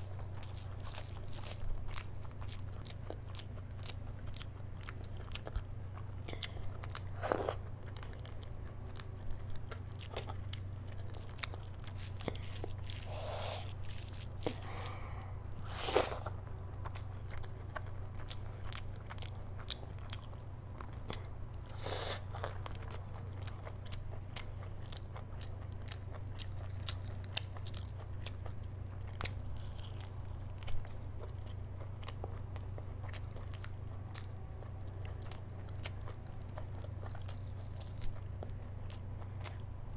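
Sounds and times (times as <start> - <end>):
chewing with wet smacks: 0.0 - 14.9, 15.5 - 39.9.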